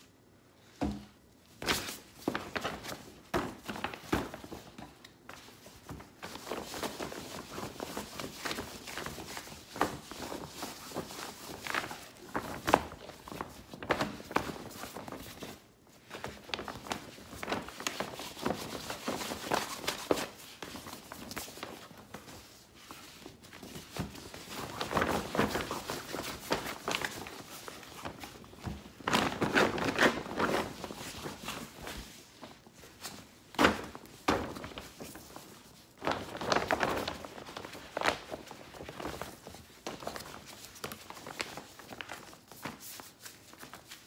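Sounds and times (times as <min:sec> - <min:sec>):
fabric bags rustling: 0:01.4 - 0:44.0.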